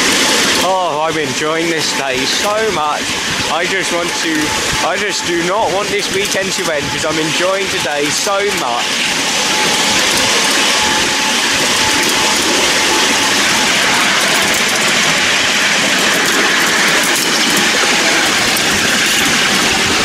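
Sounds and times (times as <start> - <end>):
miniature train rolling on rails: 0.0 - 20.0.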